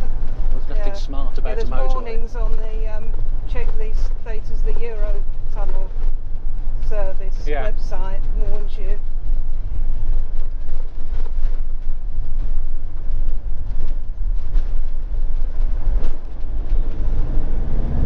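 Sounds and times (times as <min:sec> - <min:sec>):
engine and tyres rumbling: 0:00.0 - 0:18.0.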